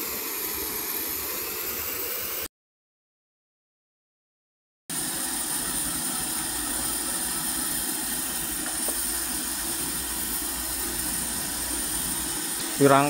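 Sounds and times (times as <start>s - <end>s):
gas burner roaring: 0.0s - 2.5s, 4.9s - 13.0s.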